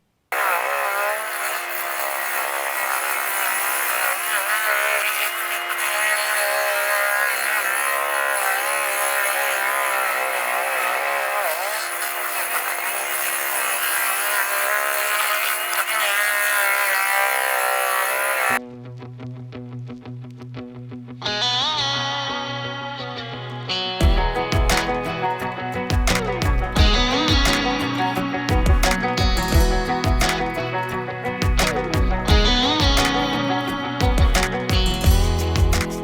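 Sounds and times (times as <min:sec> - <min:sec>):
stump grinder engine drone: 0:00.3 - 0:18.6, 0:24.0 - 0:36.0.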